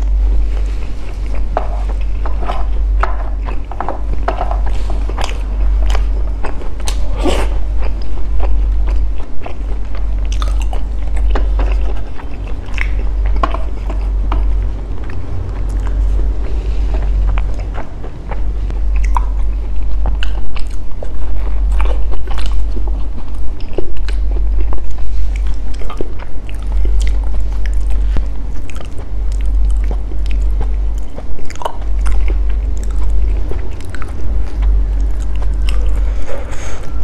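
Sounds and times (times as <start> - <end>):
deep uneven rumble: 0.0 - 37.0.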